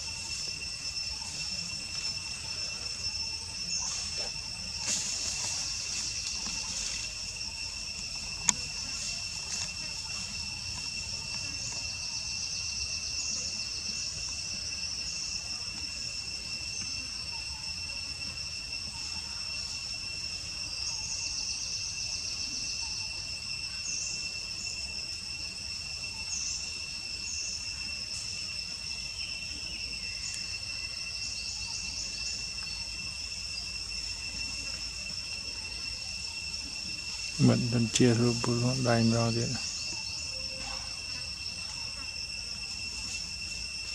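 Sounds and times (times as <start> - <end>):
high-pitched insect tones: 0.0 - 43.9
rapid pulsing insect chirps: 0.0 - 43.9.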